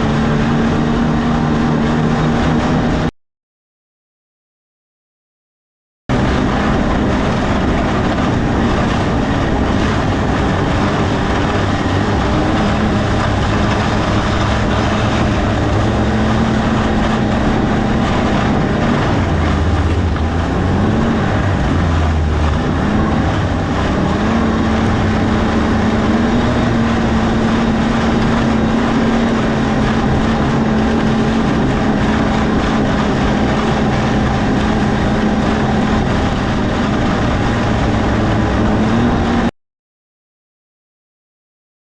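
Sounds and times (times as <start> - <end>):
broad rushing noise: 0.0 - 3.1, 6.1 - 39.5
vehicle engine running: 0.0 - 3.1, 6.1 - 39.5.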